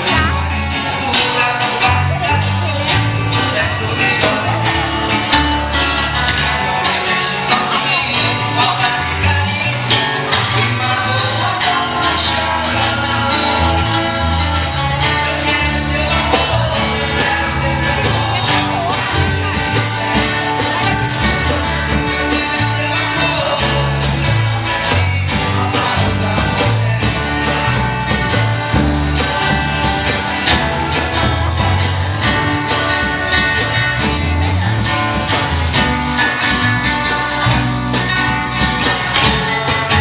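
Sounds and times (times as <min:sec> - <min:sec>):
live band playing: 0:00.0 - 0:40.0
person singing: 0:00.0 - 0:40.0.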